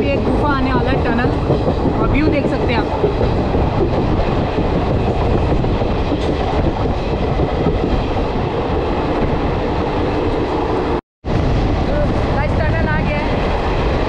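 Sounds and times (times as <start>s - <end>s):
train wheels rushing on rails: 0.0s - 14.0s
wind blowing over microphone: 0.0s - 14.0s.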